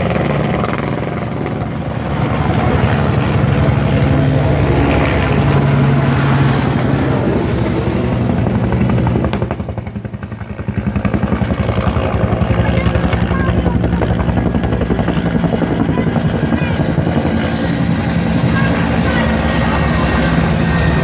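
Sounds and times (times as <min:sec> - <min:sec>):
helicopter rotor blades beating: 0:00.0 - 0:21.0.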